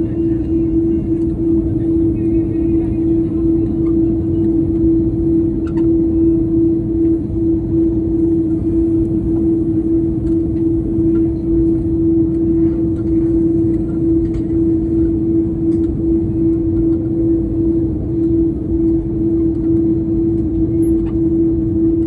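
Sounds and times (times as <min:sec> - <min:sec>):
airliner cabin engine drone: 0:00.0 - 0:22.0.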